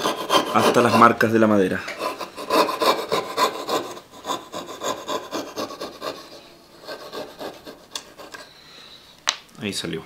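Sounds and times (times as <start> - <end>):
coping saw rasping through wood: 0.0 - 8.5.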